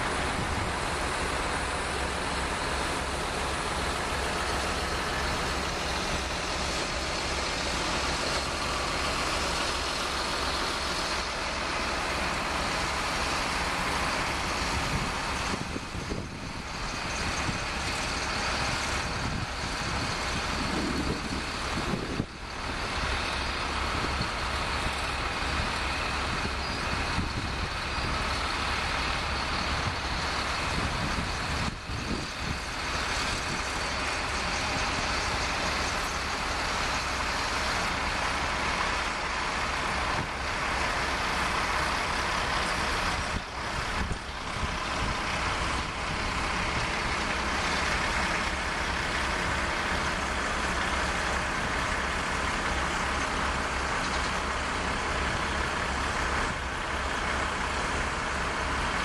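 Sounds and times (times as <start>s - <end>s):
heavy diesel engines droning: 0.0s - 59.0s.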